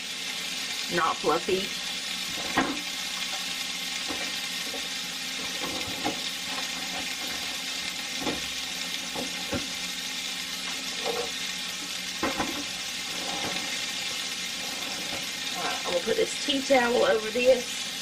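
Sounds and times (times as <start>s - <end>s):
burger patties sizzling: 0.0s - 18.0s.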